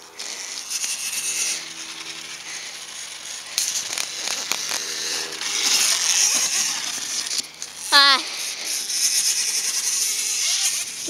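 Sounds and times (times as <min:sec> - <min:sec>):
dirt bike motor whirring: 0:00.0 - 0:11.0.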